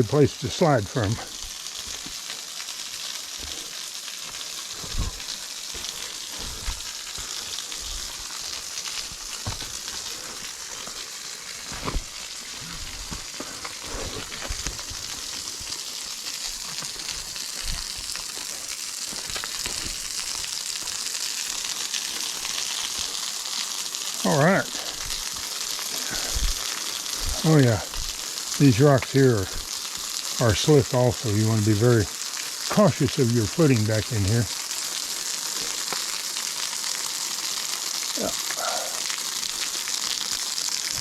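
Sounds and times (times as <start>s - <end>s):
waterfall splashing: 0.0s - 41.0s.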